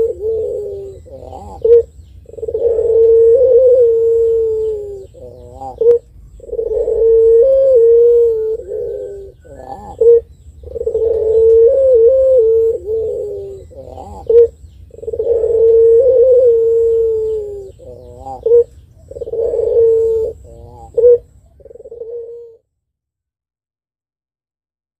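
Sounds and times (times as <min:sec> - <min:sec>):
dove cooing: 0:00.0 - 0:22.6.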